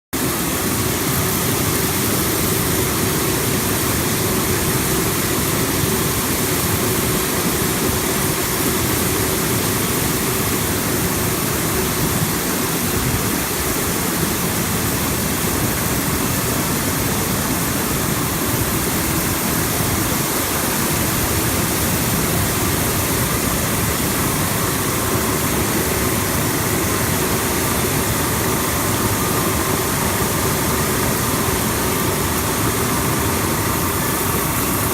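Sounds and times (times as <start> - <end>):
air-agitated water rushing: 0.1 - 34.9.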